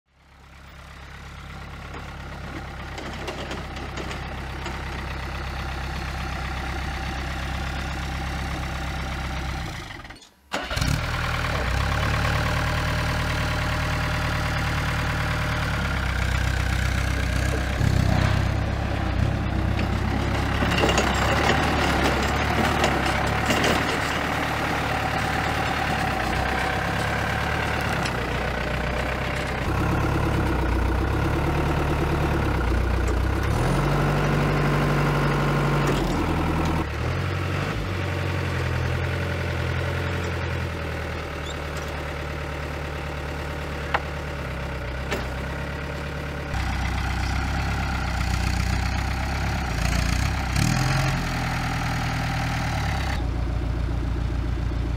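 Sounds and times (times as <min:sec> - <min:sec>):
forklift diesel engine running: 0:00.2 - 0:54.9.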